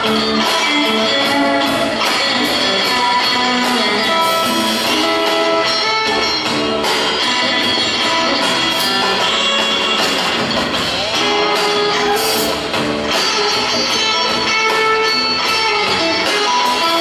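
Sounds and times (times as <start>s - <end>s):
drum kit: 0.0s - 17.0s
electric guitar: 0.0s - 17.0s
upright bass: 0.0s - 17.0s.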